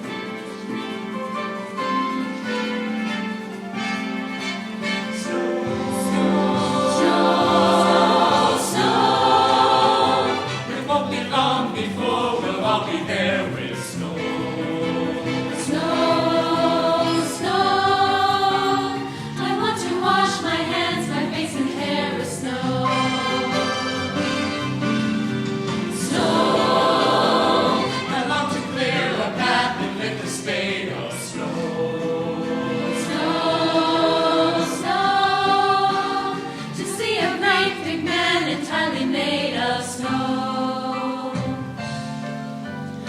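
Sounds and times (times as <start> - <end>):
choir singing in parts: 4.4 - 42.0.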